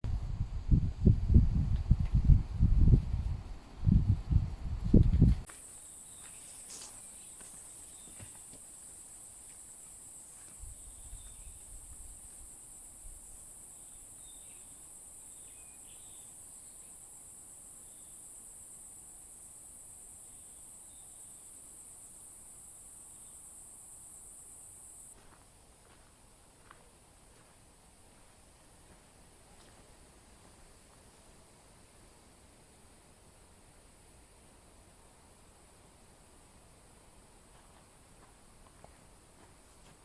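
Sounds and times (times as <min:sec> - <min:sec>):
insect chorus: 0:00.2 - 0:40.0.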